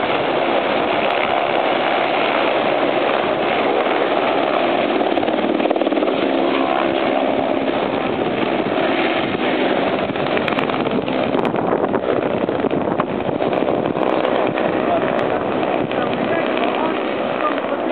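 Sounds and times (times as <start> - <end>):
helicopter turbine and rotor: 0.0 - 17.9.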